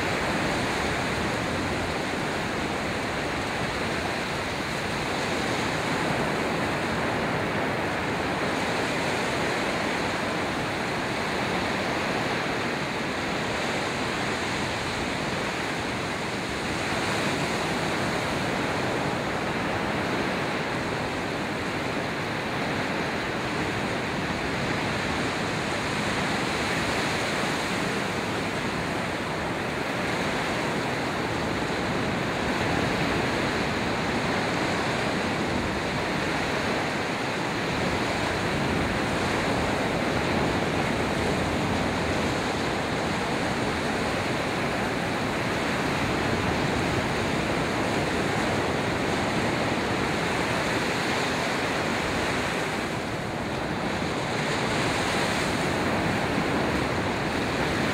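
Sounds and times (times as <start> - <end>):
ocean surf breaking: 0.0 - 57.9.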